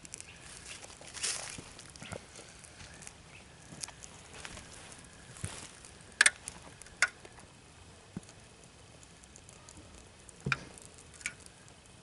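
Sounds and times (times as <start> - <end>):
fire popping: 0.0 - 12.0
kindling fire crackling: 0.0 - 12.0.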